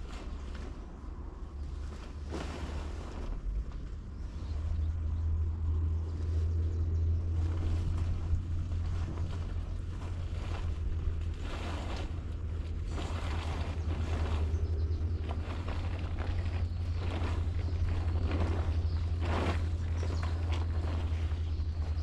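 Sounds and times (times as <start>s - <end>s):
rustling or scraping: 0.0s - 22.0s
wind buffeting microphone: 0.0s - 22.0s.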